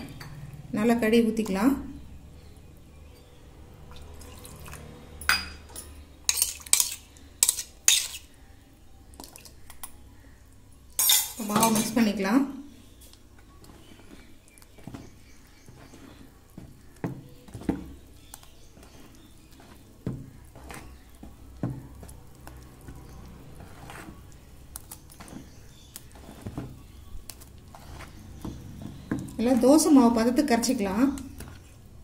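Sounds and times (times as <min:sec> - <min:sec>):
spoon stirring batter: 0:05.6 - 0:32.0.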